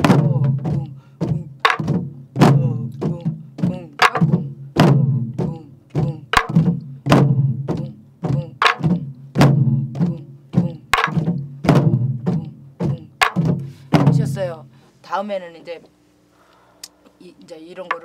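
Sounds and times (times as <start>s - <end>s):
barrel drum booms: 0.0s - 14.7s.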